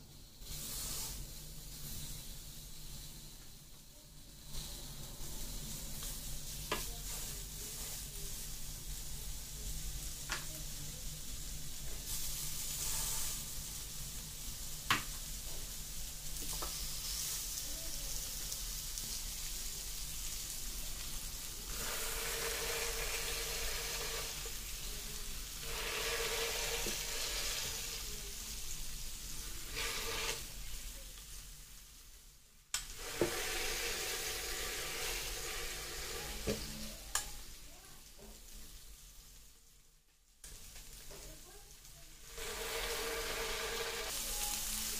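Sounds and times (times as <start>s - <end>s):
burger patties sizzling on grill: 0.0s - 44.9s.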